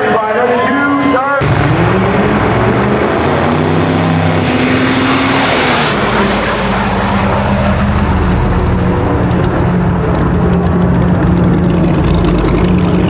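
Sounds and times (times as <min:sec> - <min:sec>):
drag car engine at full throttle: 0:00.0 - 0:13.0.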